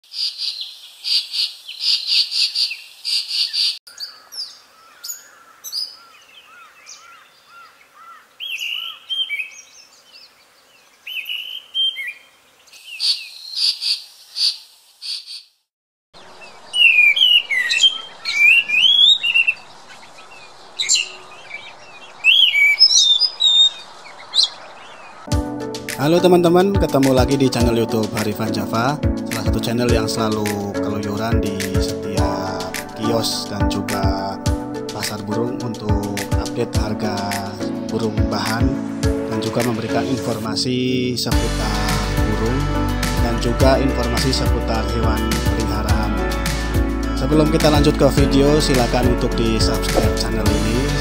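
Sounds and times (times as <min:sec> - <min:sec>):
thrushes singing: 0:00.1 - 0:15.5, 0:16.2 - 0:51.0.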